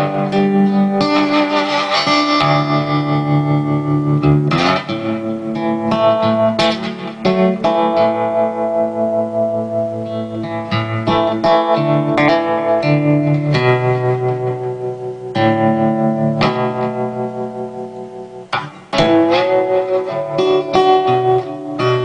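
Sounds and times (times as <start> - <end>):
plucked guitar music: 0.0 - 22.0.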